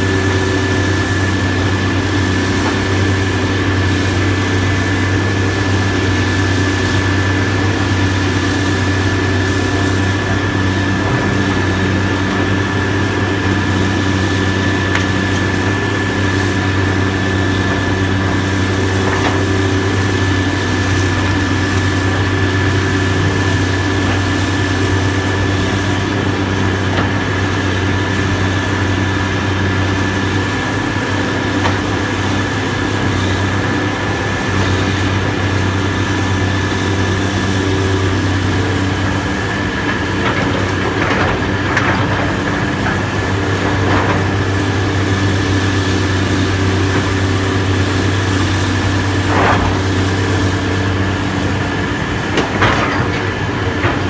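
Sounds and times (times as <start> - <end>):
heavy machinery engine idling: 0.0 - 54.0.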